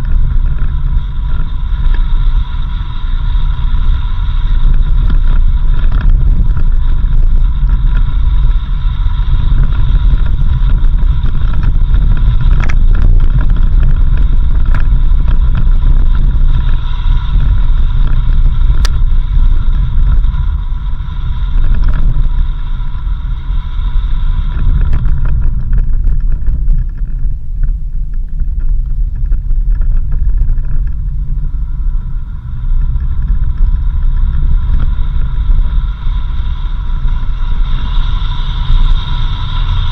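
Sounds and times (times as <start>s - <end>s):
higher hum: 0.0s - 39.9s
vehicle engine and tyres rumbling: 0.0s - 39.9s.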